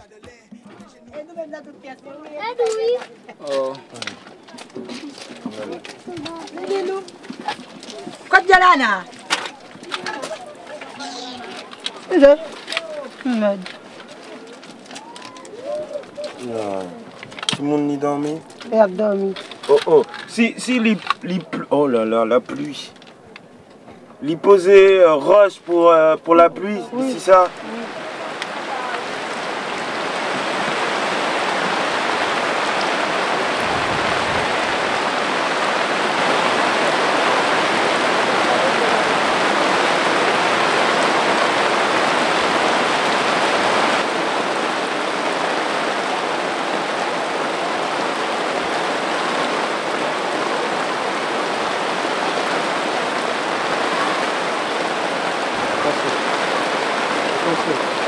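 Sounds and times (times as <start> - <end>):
heavy rain on tents: 1.5 - 58.0.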